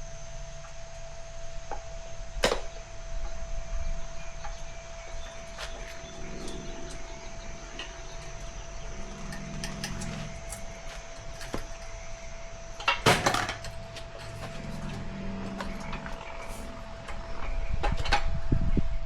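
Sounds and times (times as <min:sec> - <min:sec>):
steady thin hum: 0:00.0 - 0:19.0.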